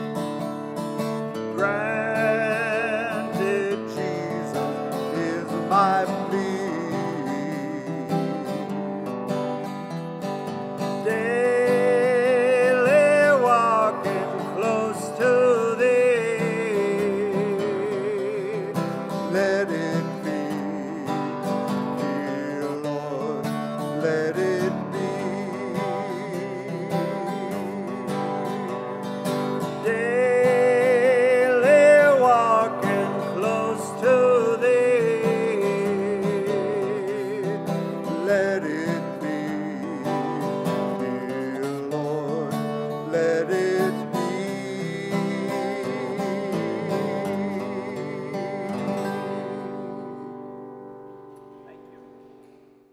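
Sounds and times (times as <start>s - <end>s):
person singing: 0.0s - 50.4s
slow acoustic guitar music: 0.0s - 52.9s.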